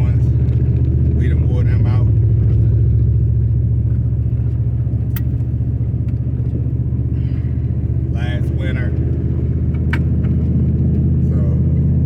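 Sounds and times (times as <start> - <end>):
tyres on snowy road: 0.0 - 12.0
vehicle engine rumble: 0.0 - 12.0.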